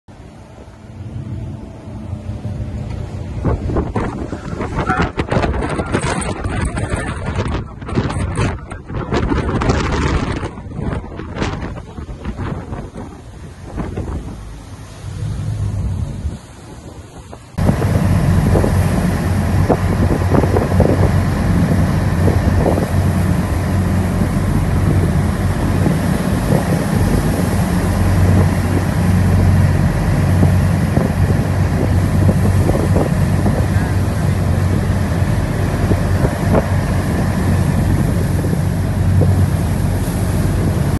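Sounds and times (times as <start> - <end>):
boat engines running: 0.1 - 40.9
waves slapping: 0.1 - 40.9
wind buffeting microphone: 0.3 - 40.9.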